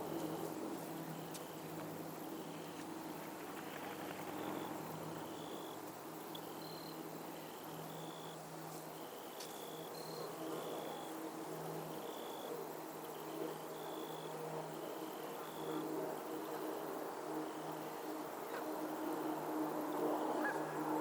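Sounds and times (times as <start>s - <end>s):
insects chirping in trills: 0.0s - 21.0s.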